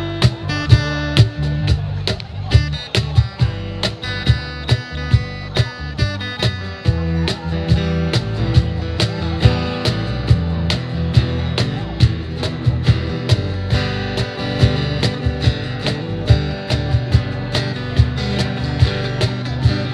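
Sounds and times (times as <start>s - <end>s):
electric guitar: 0.0s - 19.9s
steady percussive beat: 0.0s - 19.9s
strummed acoustic guitar: 0.0s - 19.9s.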